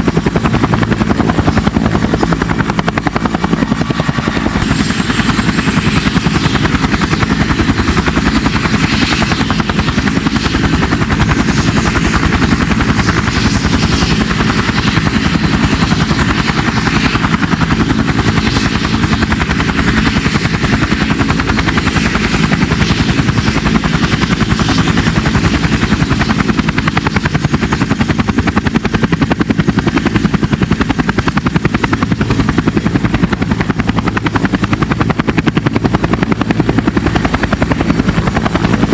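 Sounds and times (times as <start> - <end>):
helicopter rotors chopping: 0.0 - 38.9
turbine engine whine: 0.0 - 38.9.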